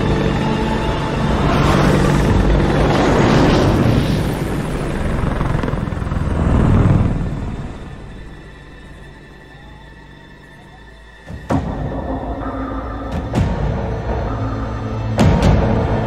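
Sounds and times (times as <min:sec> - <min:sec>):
aircraft passing overhead: 0:00.0 - 0:16.0.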